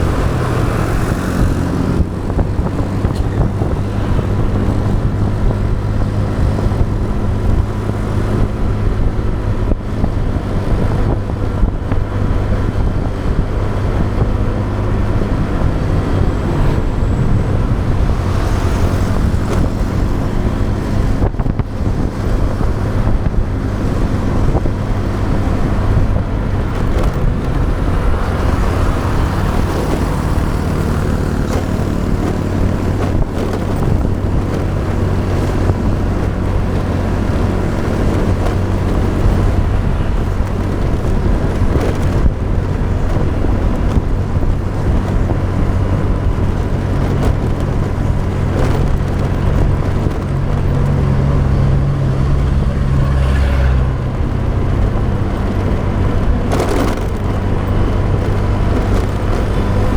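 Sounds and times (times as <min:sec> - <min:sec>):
motorbike engine cruising: 0:00.0 - 0:59.9
road noise: 0:00.0 - 0:59.9
wind rushing over microphone: 0:00.0 - 0:59.9.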